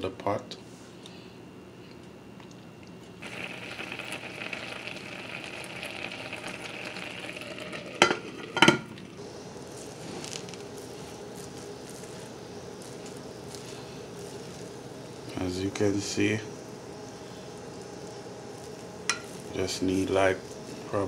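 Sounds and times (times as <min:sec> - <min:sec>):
rice pot bubbling and sizzling: 0:03.2 - 0:20.8.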